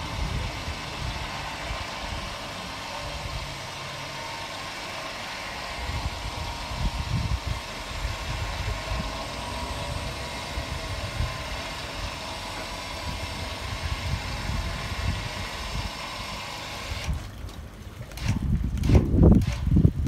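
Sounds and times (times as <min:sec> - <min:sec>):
car engine running under load: 0:00.0 - 0:20.0.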